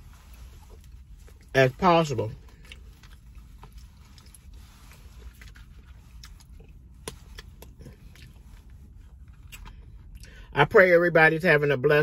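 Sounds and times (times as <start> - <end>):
person chewing: 0.0 - 10.4
low steady hum: 0.0 - 12.0.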